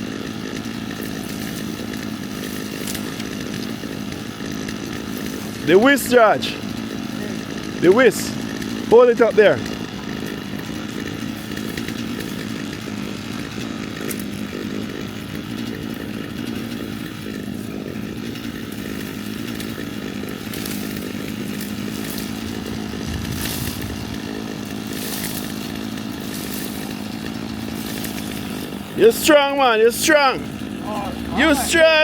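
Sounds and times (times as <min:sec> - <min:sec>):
chainsaw running: 0:00.0 - 0:32.0.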